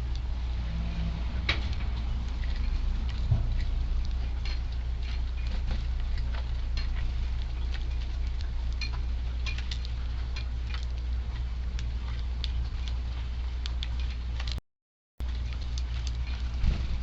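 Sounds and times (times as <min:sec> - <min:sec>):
sparrows pecking at seed: 0:00.0 - 0:14.6, 0:15.2 - 0:17.0
wind buffeting microphone: 0:00.2 - 0:13.1, 0:15.6 - 0:17.0.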